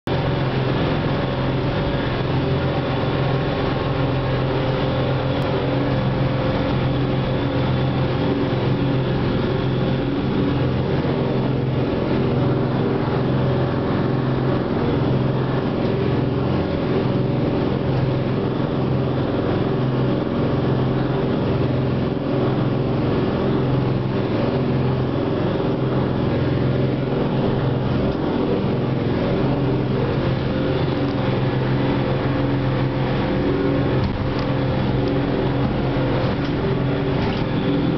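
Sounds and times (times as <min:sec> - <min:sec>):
ferry engine drone: 0:00.0 - 0:37.9
rushing water and wind: 0:00.1 - 0:37.9.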